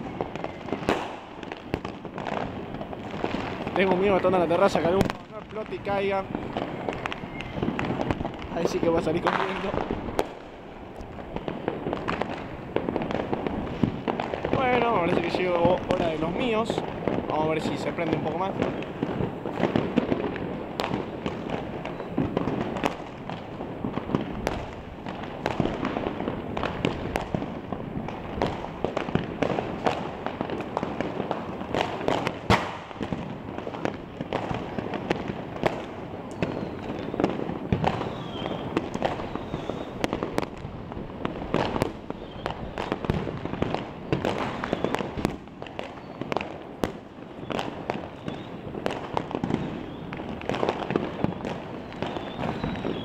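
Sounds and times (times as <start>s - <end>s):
distant fireworks bangs and crackling: 0.0s - 53.0s.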